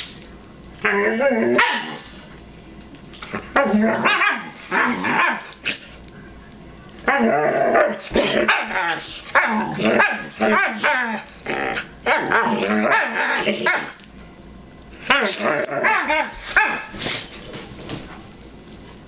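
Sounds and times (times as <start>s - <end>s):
dogs growling and barking: 0.8s - 2.2s, 3.2s - 14.3s, 14.9s - 18.5s.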